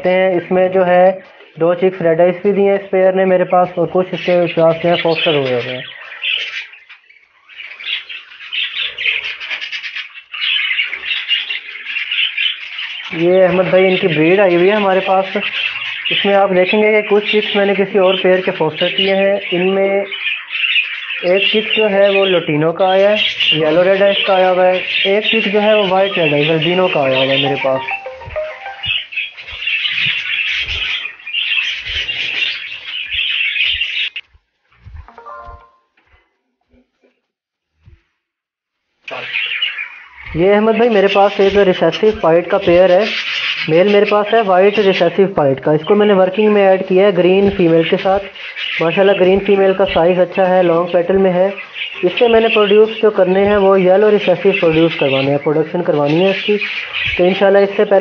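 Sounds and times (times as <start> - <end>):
budgerigars chattering: 0.0 - 35.7, 39.1 - 58.0.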